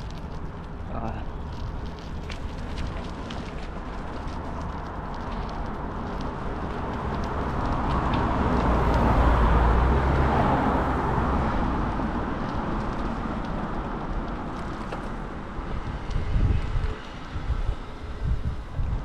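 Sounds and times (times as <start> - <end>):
vehicle passing on road: 0.0 - 19.0.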